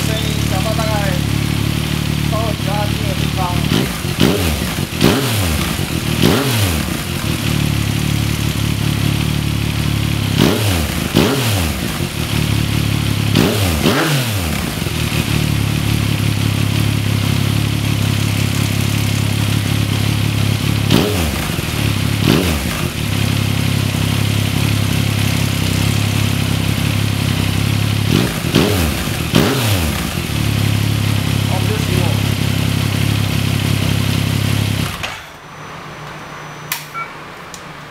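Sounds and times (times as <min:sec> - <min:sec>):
motorcycle engine idling and blipped: 0:00.0 - 0:37.9.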